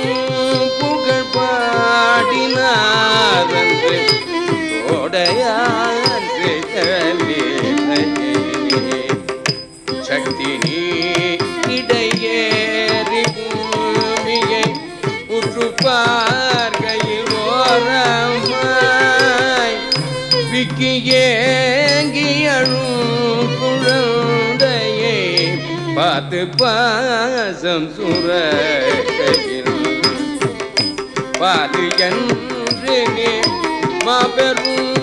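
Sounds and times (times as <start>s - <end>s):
mridangam drum strokes: 0.0s - 35.0s
ornamented melody line: 0.0s - 35.0s.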